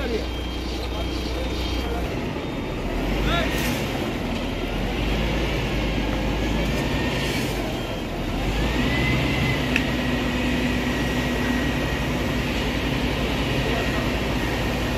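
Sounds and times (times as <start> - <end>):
fire engine pump rumbling: 0.0 - 14.9.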